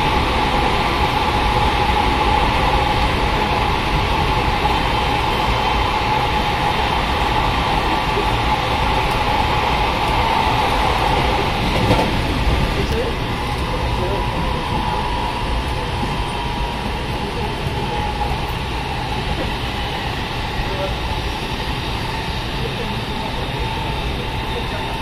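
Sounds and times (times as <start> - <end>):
train running hum: 0.0 - 25.0
train wheels rumbling on rails: 0.0 - 25.0.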